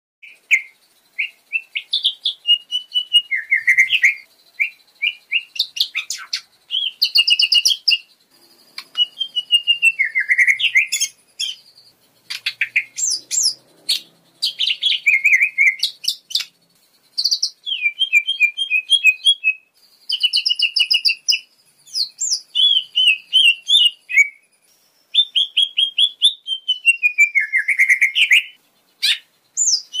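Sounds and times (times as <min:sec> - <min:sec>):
songbird singing whistled phrases: 0:00.2 - 0:30.0.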